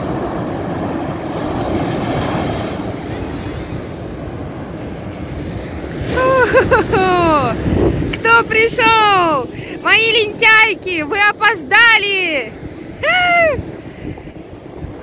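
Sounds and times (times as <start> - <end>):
surf washing onto beach: 0.0 - 15.0
wind on microphone: 0.0 - 15.0.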